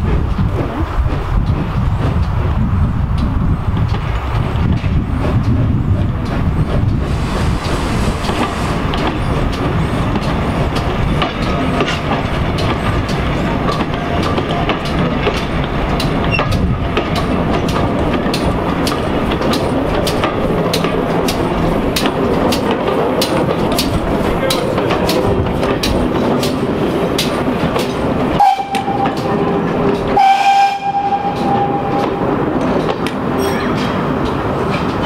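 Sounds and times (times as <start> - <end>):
train rumbling past: 0.0 - 35.0
wheels clicking over rail joints: 0.0 - 35.0.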